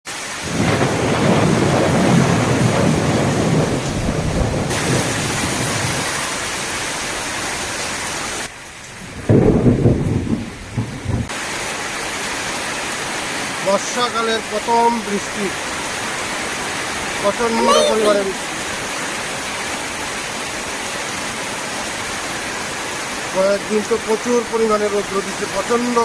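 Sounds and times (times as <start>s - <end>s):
heavy rain pouring: 0.1s - 26.0s.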